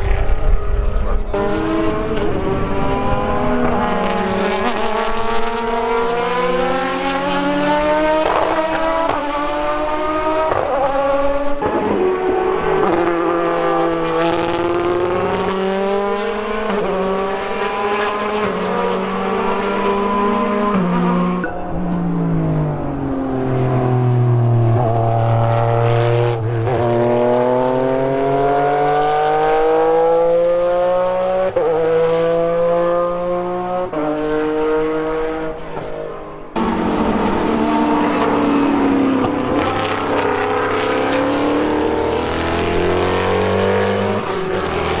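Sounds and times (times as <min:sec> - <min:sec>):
racing car engines at high revs: 0:00.0 - 0:45.0.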